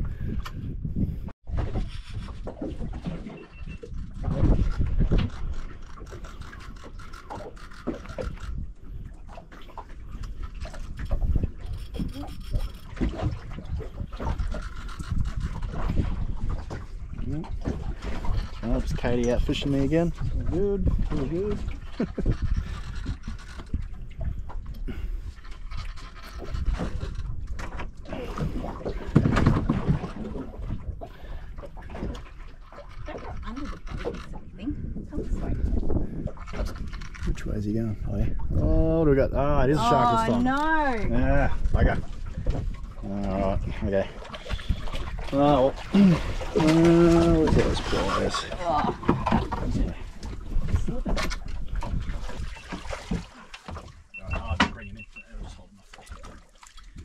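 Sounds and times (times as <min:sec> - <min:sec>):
water noise around boat: 0:00.0 - 0:57.0
wind rumbling on microphone: 0:00.0 - 0:57.0.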